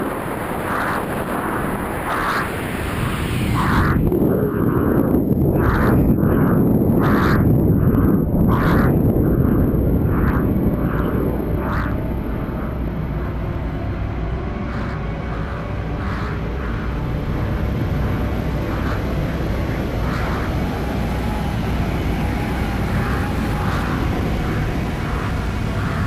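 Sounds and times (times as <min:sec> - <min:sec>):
rush of air in free fall: 0:00.0 - 0:26.0.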